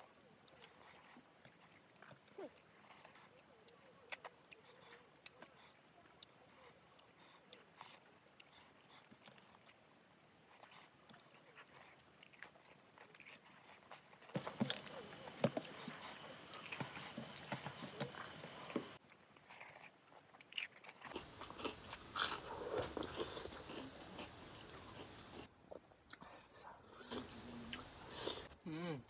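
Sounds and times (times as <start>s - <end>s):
person chewing food: 0.0s - 28.6s.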